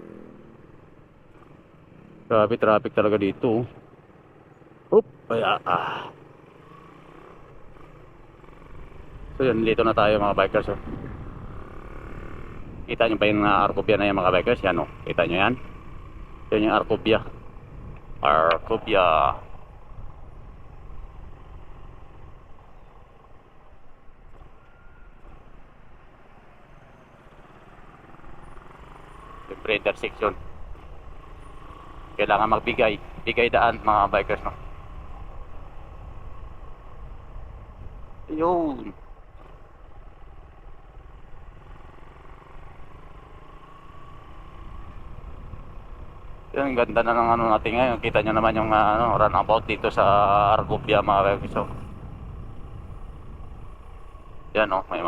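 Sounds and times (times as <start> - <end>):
motorcycle engine rumble: 0.0 - 55.0
road traffic: 0.0 - 55.0.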